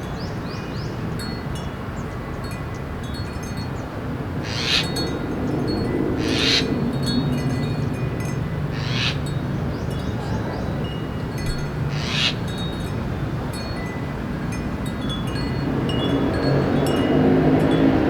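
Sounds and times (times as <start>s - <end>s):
city traffic hum: 0.0s - 18.0s
small wind chime ringing: 0.0s - 18.0s.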